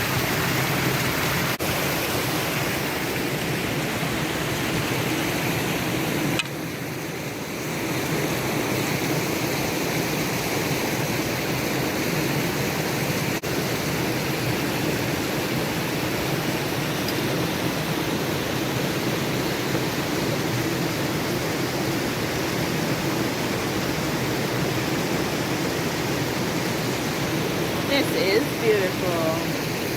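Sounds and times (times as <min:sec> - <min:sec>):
stream water rushing over rocks: 0:00.0 - 0:29.9.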